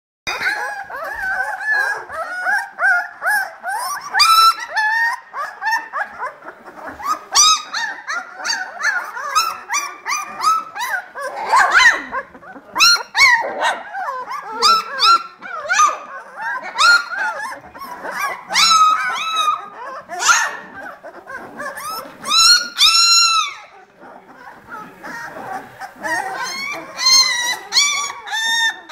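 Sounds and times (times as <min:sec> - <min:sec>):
puppies whining and yipping: 0:00.3 - 0:28.9
puppy long cry: 0:00.3 - 0:28.9.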